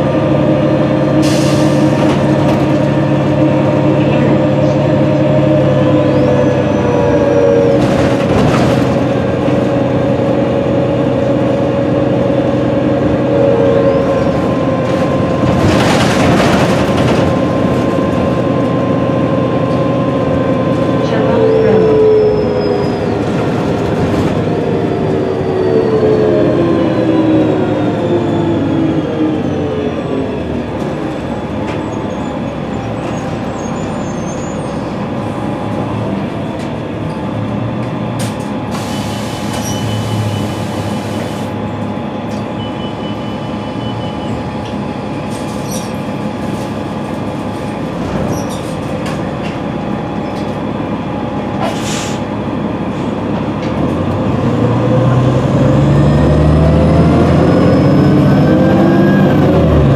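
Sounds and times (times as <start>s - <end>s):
bus drivetrain whine: 0.0s - 59.9s.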